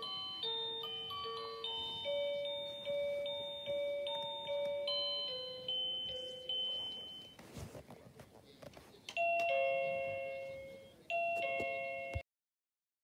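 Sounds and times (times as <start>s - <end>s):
two-note ding-dong chime: 0.0s - 7.4s, 9.2s - 12.2s
doorbell chime melody: 0.0s - 7.6s, 9.2s - 12.2s.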